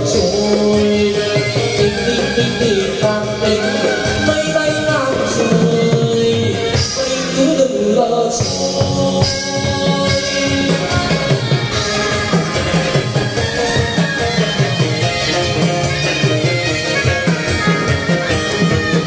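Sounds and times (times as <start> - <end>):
instrumental accompaniment with steady beat: 0.0 - 19.0
person singing long melodic lines: 0.0 - 19.0.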